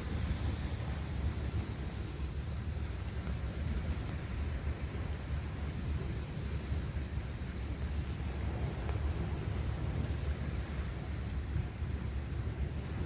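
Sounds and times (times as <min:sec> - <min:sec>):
ocean surf on a beach: 0:00.0 - 0:13.0.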